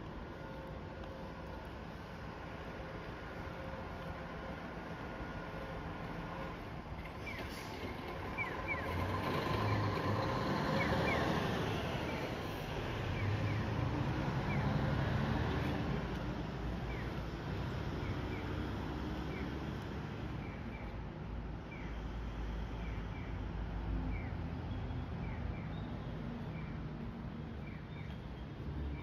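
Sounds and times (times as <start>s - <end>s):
traffic noise: 0.0s - 29.0s.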